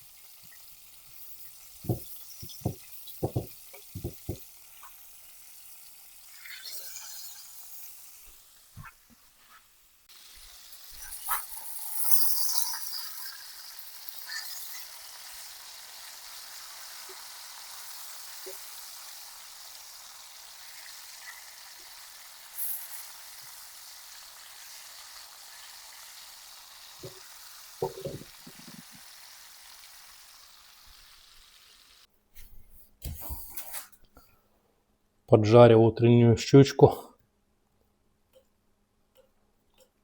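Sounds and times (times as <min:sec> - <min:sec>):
fish sizzling in hot oil: 0:00.0 - 0:32.1.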